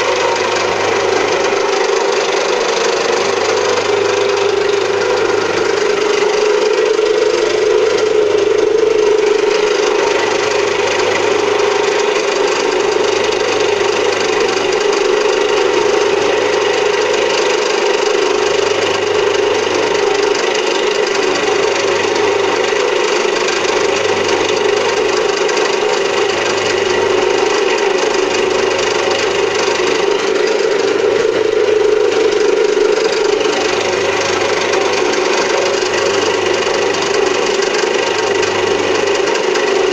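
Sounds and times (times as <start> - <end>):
motor hum: 0.0 - 39.9
scratchy metal cutting: 0.0 - 39.9.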